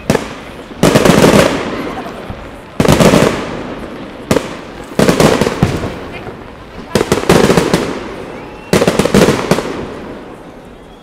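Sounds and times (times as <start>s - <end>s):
crackling firework tail: 0.0s - 11.0s.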